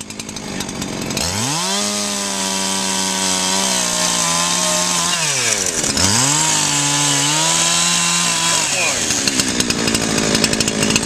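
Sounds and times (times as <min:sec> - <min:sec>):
chainsaw cutting through roof: 0:00.0 - 0:11.0.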